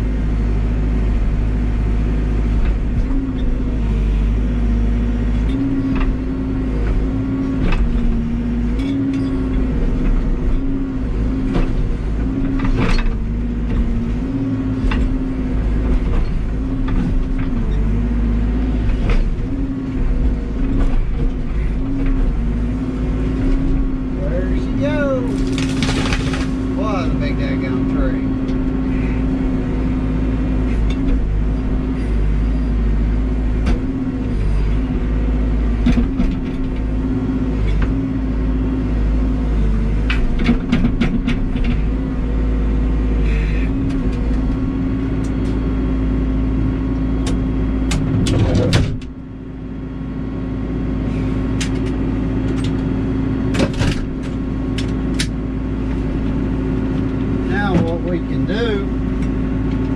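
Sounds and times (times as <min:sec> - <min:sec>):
backhoe diesel engine running: 0:00.0 - 0:59.9.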